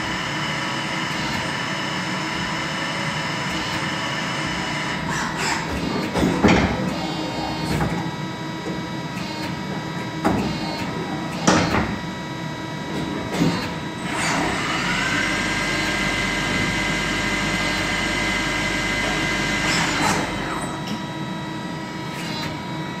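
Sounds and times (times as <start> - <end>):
lathe drives whining: 0.0 - 23.0.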